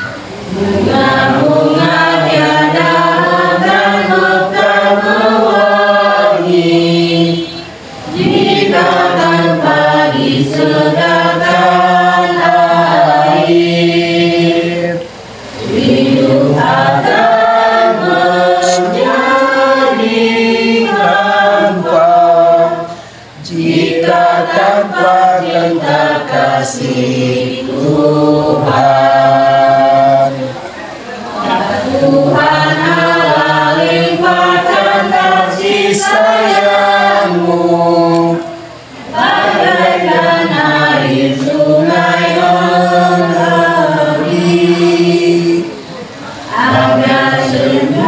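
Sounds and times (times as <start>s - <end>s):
group singing a hymn: 0.0s - 48.0s.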